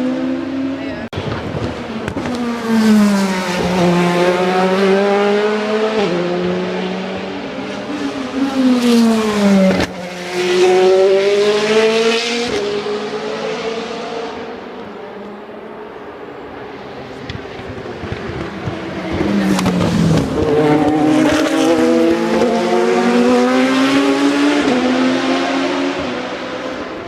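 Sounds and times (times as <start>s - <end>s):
race cars passing at full throttle: 0.0s - 27.0s.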